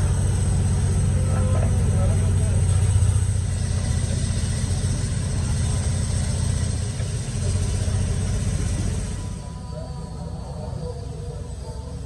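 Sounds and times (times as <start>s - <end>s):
engine running with pulsing rumble: 0.0s - 12.0s.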